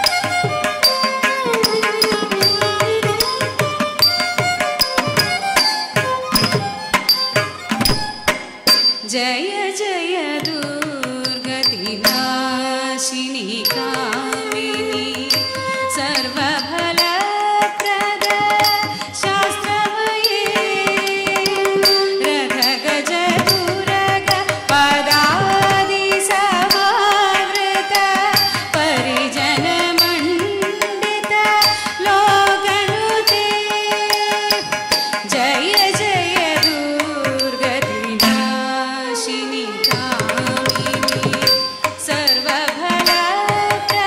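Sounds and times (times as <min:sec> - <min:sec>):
person singing ornamented melody: 0:08.7 - 0:44.0.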